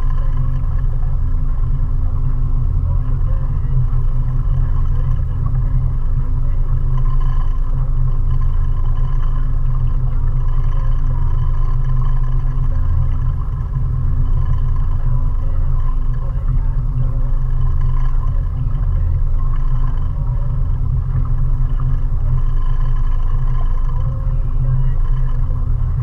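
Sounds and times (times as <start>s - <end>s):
outboard motor droning: 0.0s - 26.0s.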